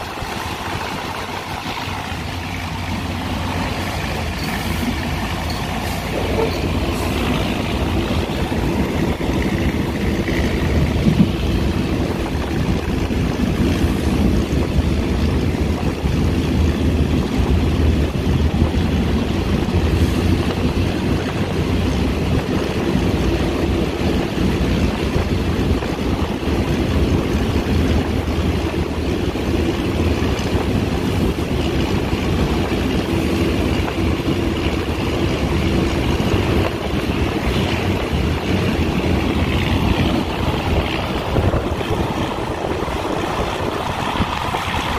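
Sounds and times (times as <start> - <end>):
air rushing through window: 0.0 - 44.9
train wheels rumbling: 0.0 - 44.9.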